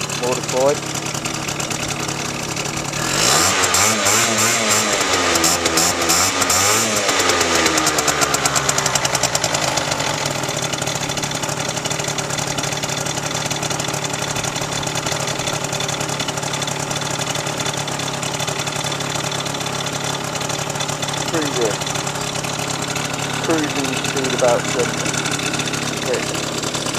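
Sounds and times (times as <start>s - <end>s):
scooter engine revving and idling: 0.0s - 26.9s.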